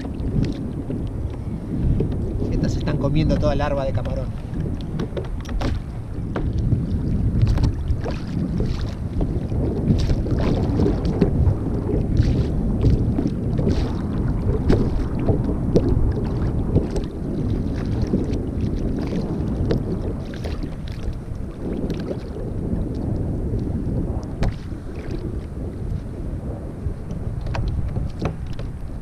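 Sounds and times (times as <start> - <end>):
water splashing against hull: 0.0 - 29.0
wind buffeting microphone: 0.0 - 29.0.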